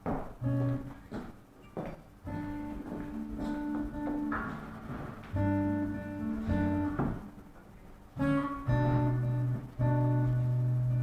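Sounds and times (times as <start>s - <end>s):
acoustic guitar strumming chords: 0.4s - 1.3s, 2.2s - 11.0s.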